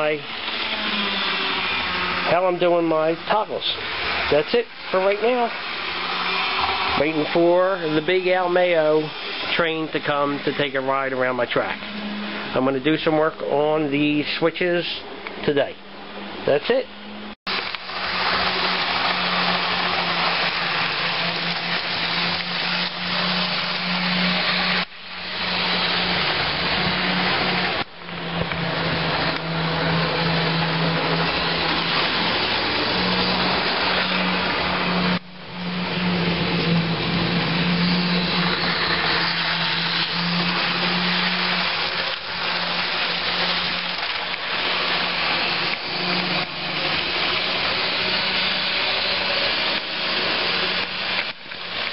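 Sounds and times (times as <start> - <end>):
small electric motor whirring: 0.0 - 2.6, 3.8 - 10.8, 17.5 - 51.9.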